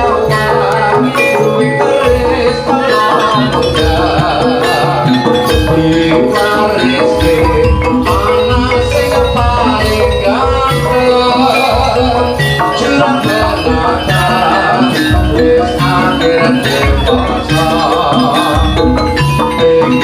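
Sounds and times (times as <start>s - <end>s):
gamelan metallophones and gongs: 0.0s - 20.0s
steady drum beats: 0.0s - 20.0s.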